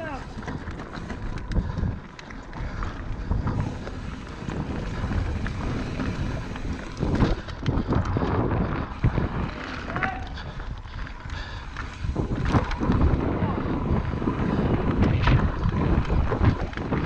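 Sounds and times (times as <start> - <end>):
bike knocking and rattling: 0.0 - 17.0
bike tyres rolling on dirt: 0.0 - 17.0
wind buffeting microphone: 0.0 - 17.0.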